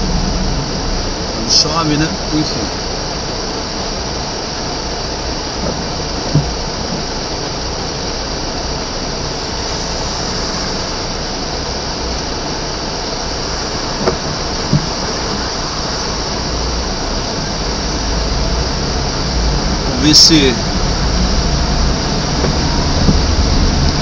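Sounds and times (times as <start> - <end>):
low engine rumble: 0.0 - 24.0
tyre hiss on wet road: 0.0 - 24.0.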